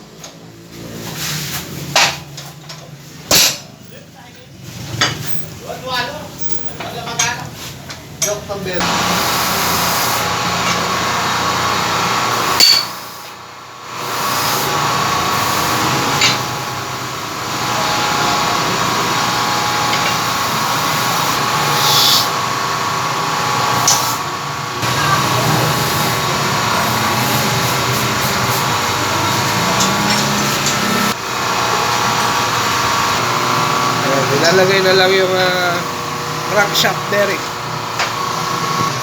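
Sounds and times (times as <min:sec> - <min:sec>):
workshop machinery running: 0:00.0 - 0:39.0.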